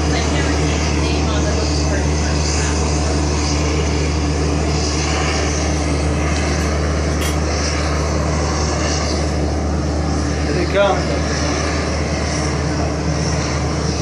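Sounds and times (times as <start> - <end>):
distant propeller plane engine droning: 0.0 - 14.0.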